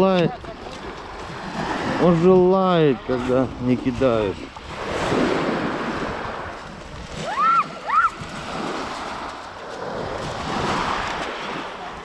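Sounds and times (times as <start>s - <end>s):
waves breaking on pebble beach: 0.0s - 12.0s.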